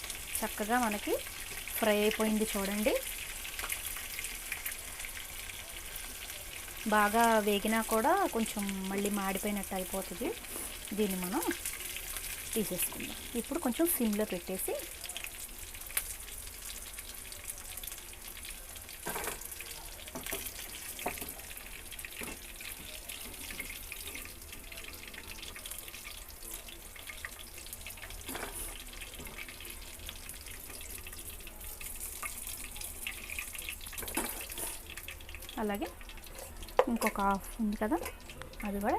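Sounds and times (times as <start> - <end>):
chicken frying in hot oil: 0.0 - 38.9.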